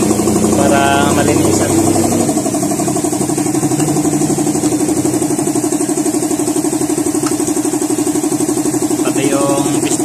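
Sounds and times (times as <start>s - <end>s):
motor running: 0.0s - 10.0s
quick even pulsing beat: 0.0s - 10.0s.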